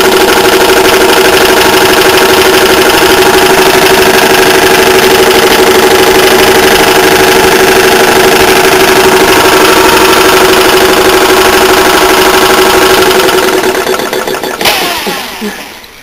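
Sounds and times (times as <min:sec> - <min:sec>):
air compressor humming and pulsing: 0:00.0 - 0:16.0.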